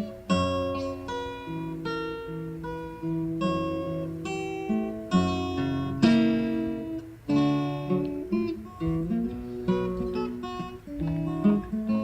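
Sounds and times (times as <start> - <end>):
acoustic guitar plucked and strummed: 0.0 - 12.0.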